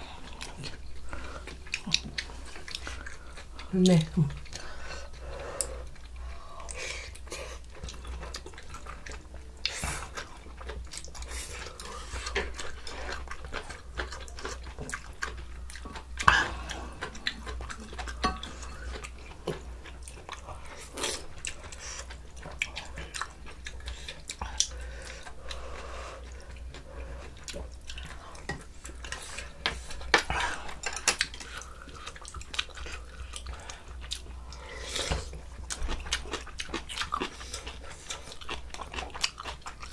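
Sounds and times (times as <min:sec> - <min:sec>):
people chewing: 0:00.0 - 0:39.9.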